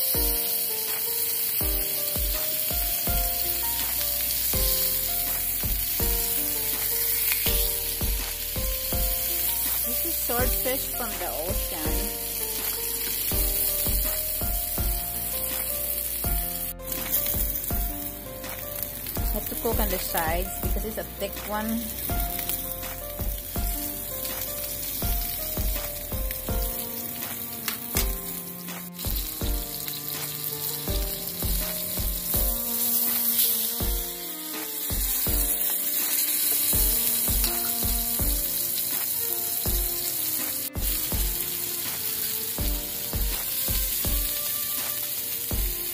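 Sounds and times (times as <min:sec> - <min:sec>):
background music with a beat: 0:00.0 - 0:45.9
fish sizzling in a frying pan: 0:00.0 - 0:45.9.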